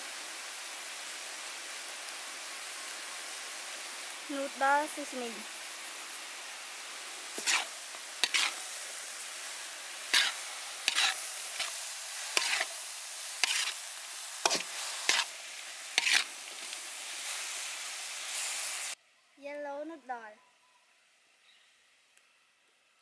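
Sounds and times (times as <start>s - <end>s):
vegetables sizzling in a wok: 0.0s - 23.0s.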